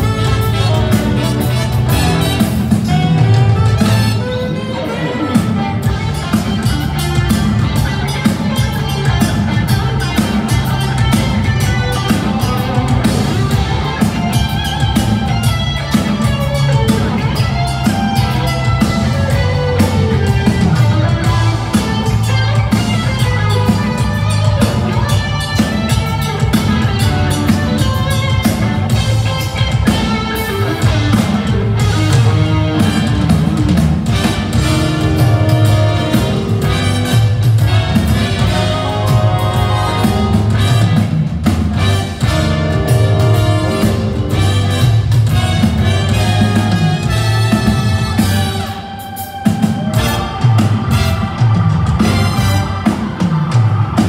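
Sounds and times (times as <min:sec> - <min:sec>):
drum kit: 0:00.0 - 0:54.0
electric guitar: 0:00.0 - 0:54.0
live band with horns: 0:00.0 - 0:54.0.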